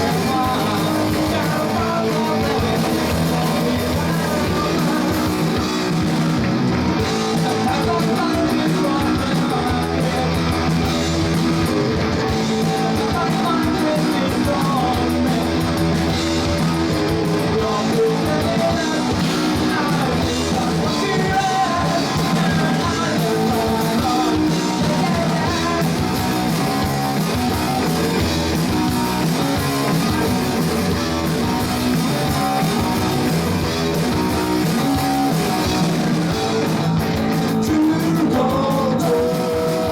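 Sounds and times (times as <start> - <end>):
person singing: 0.0 - 6.4, 7.0 - 11.5, 12.2 - 39.9
live rock band playing: 0.0 - 39.9.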